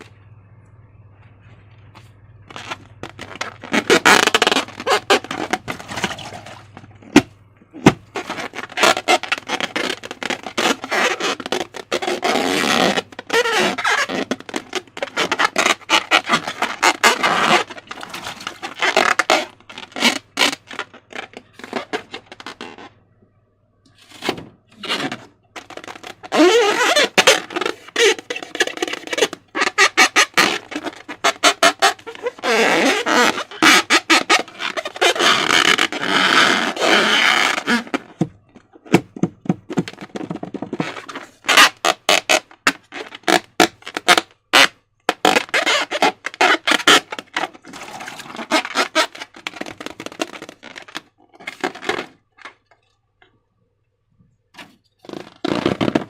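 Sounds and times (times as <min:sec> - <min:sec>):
squeaky rubbing of balloon rubber: 0:02.0 - 0:23.0, 0:24.0 - 0:52.8, 0:54.6 - 0:56.0.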